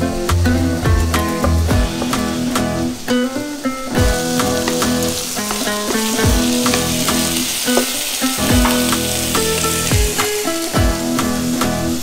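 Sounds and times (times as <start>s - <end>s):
chicken sizzling in hot oil: 0.0s - 12.0s
guitar music with a beat: 0.0s - 12.0s.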